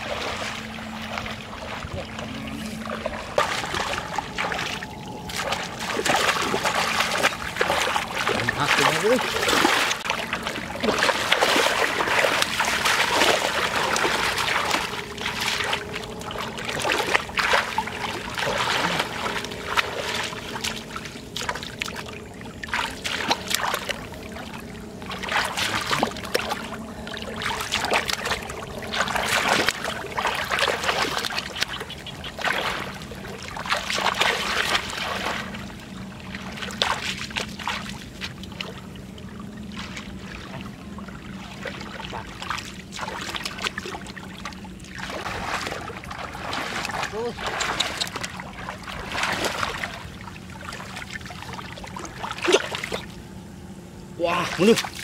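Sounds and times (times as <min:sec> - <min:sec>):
muddy water splashing: 0:00.0 - 0:53.2, 0:54.2 - 0:55.0.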